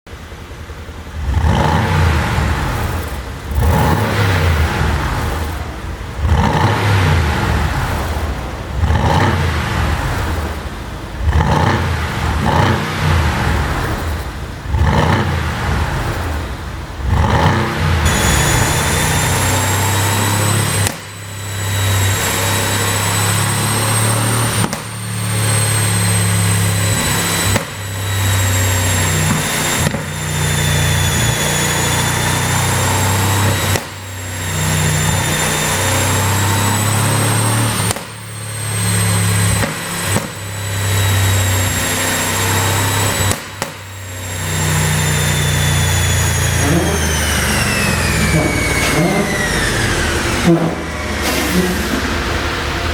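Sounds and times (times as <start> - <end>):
car engine revving: 0.1 - 52.9
exhaust crackle: 0.1 - 52.9
high engine whine: 0.1 - 52.9.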